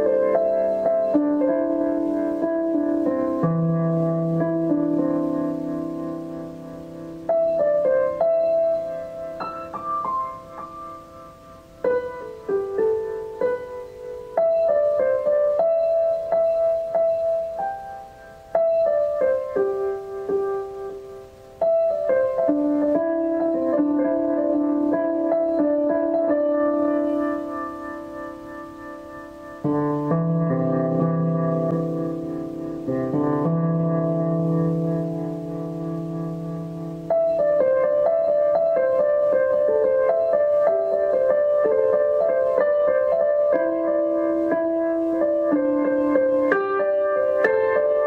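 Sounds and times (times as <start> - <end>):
gentle piano-like keyboard music: 0.0 - 48.0.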